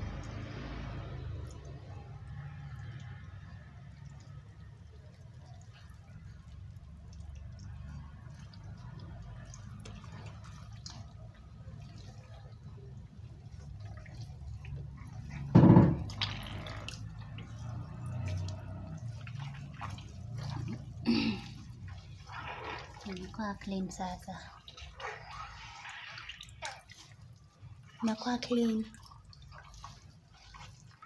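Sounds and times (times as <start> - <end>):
water dripping into plastic basin: 0.0 - 31.0.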